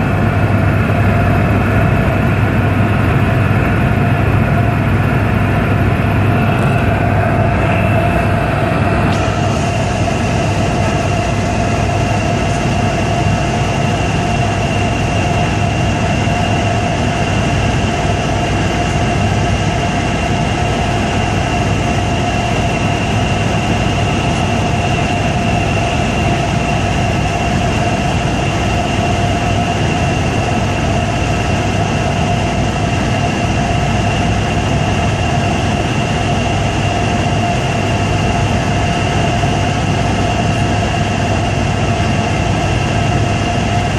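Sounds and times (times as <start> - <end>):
helicopter engine and rotor drone: 0.0 - 43.9
high whine: 0.0 - 43.9.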